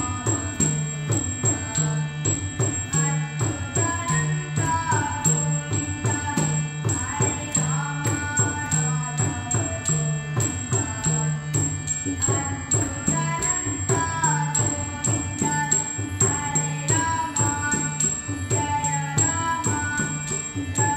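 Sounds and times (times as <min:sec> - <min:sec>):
harmonium drone: 0:00.0 - 0:20.9
person singing: 0:00.0 - 0:20.9.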